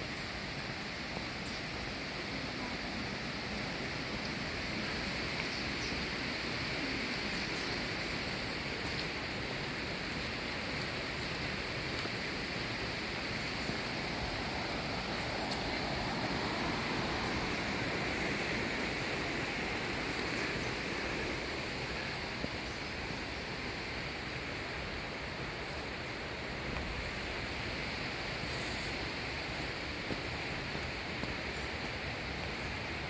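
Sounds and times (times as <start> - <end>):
waterfall roaring: 0.1 - 33.0.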